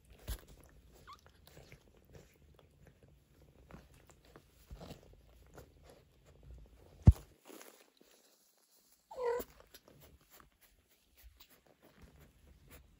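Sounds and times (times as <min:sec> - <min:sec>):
faint clicks and rustles: 0:00.0 - 0:12.9.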